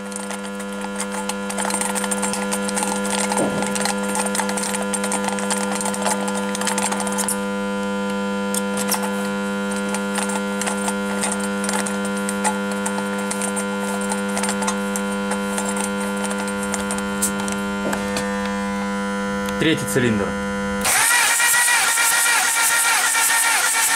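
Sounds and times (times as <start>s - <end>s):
electrical hum: 0.0s - 23.5s.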